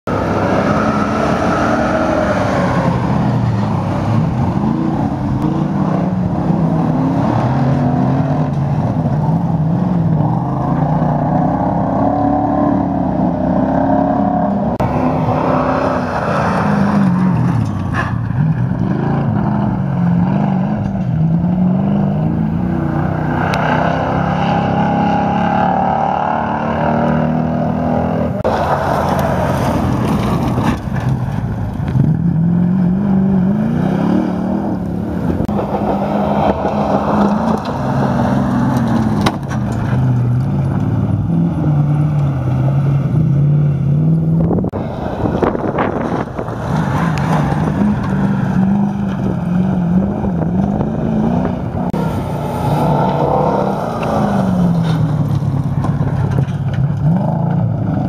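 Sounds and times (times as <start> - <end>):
truck engines revving hard: 0.0 - 58.0.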